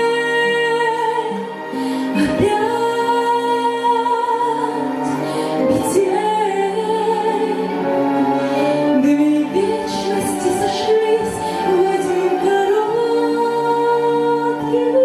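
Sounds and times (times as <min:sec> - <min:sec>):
woman singing slow song: 0:00.0 - 0:08.0, 0:08.8 - 0:15.0
instrumental accompaniment: 0:00.0 - 0:15.0.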